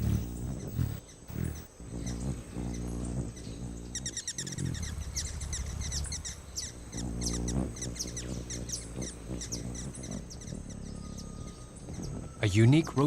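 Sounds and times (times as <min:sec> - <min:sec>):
hummingbird chips: 0:00.0 - 0:13.0
hummingbird wings humming: 0:00.0 - 0:13.0.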